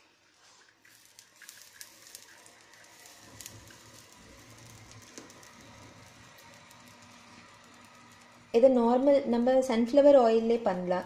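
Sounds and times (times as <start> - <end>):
hot oil sizzling in a frying pan: 0.4 - 11.0.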